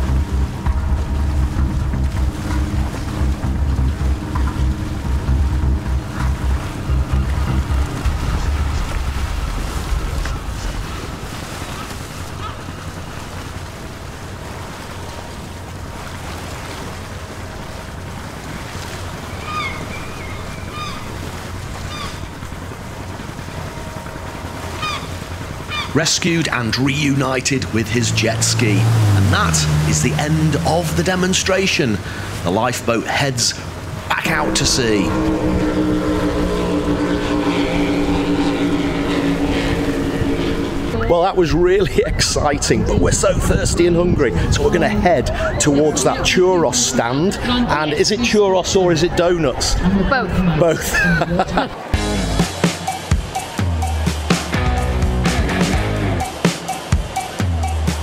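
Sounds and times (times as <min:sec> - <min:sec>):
boat engines idling: 0:00.0 - 0:58.0
choppy sea: 0:00.0 - 0:58.0
wind: 0:00.0 - 0:58.0.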